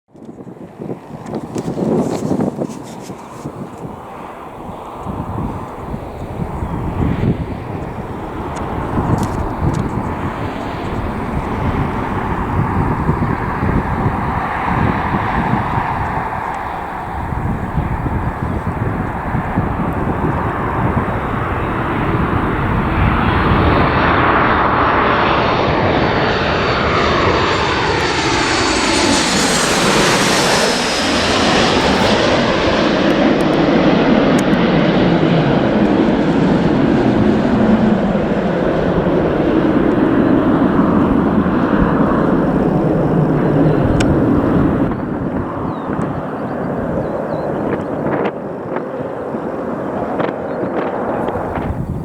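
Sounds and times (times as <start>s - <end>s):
airliner engine whine and rumble: 0.1s - 52.0s.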